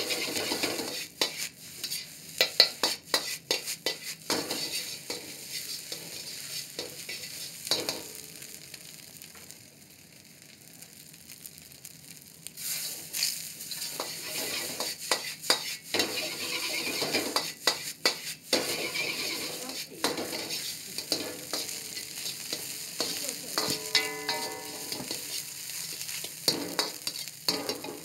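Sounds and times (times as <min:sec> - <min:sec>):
metal ladle scraping a wok: 0:00.0 - 0:08.2, 0:12.6 - 0:28.0
rice sizzling in a wok: 0:00.0 - 0:28.0.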